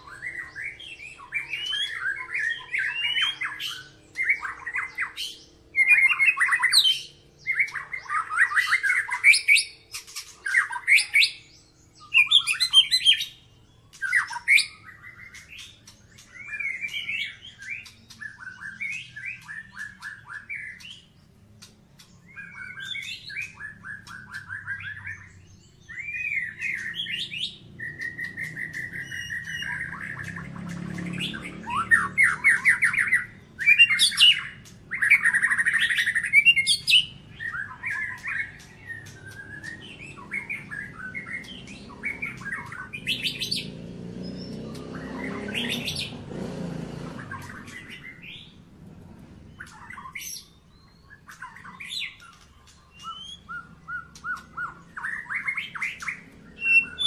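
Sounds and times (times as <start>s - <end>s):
songbird singing whistles and trills: 0.0s - 57.0s.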